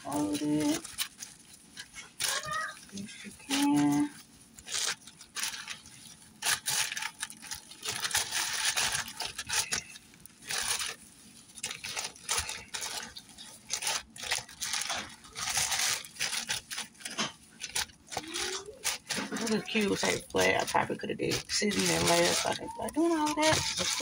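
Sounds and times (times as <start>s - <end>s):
plastic crinkling and rustling: 0.0s - 24.0s.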